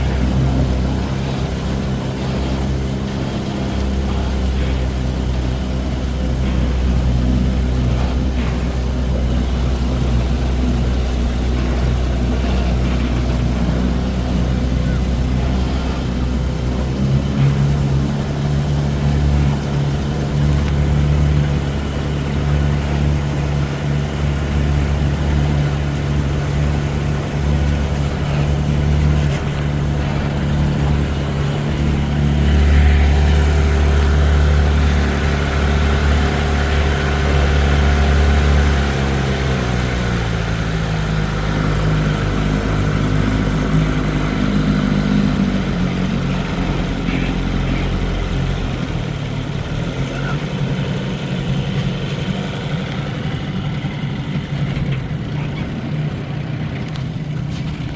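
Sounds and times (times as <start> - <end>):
outboard motor running: 0.0 - 57.9.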